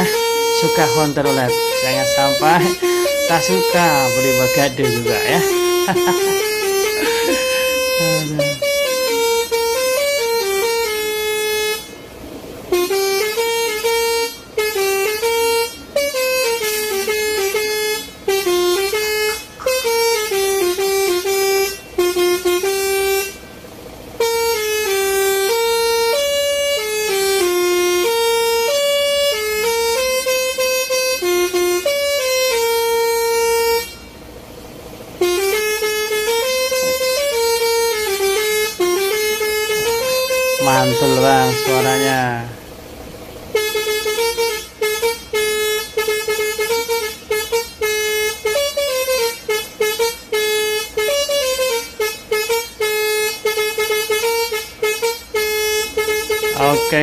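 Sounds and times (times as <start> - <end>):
musical air horn playing a tune: 0.0 - 57.0.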